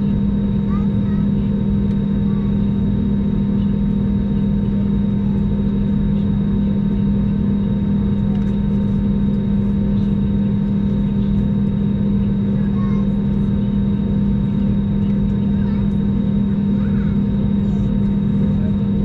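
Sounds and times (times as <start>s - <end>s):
aircraft engines idling in cabin: 0.0s - 19.0s.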